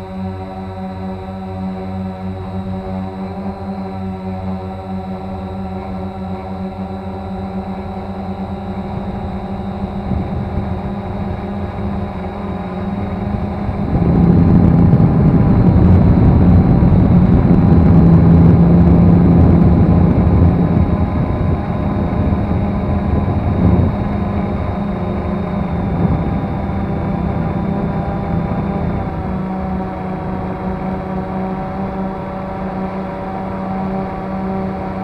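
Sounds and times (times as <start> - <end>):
drone propellers whirring: 0.0 - 35.0.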